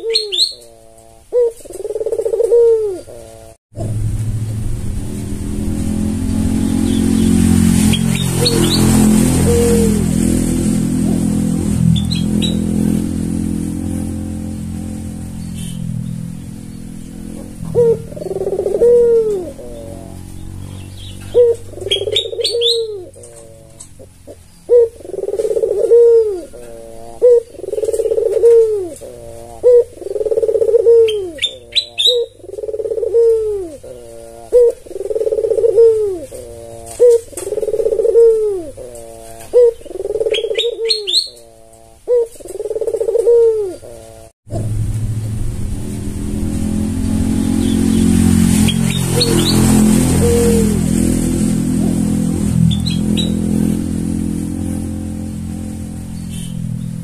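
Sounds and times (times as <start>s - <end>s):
dove cooing: 0.0s - 4.0s, 6.8s - 15.9s, 16.5s - 44.7s, 46.8s - 56.8s.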